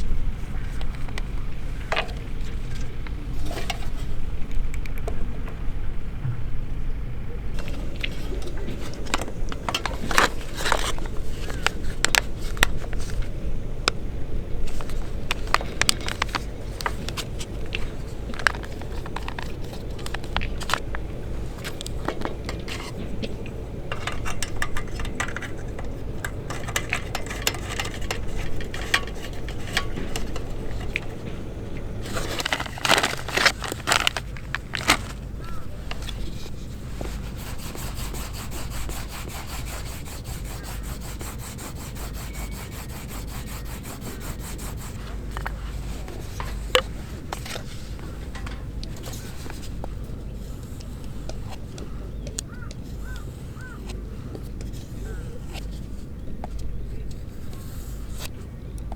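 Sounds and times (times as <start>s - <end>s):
scraping and rubbing handling noises: 0.0s - 4.8s, 7.5s - 58.6s.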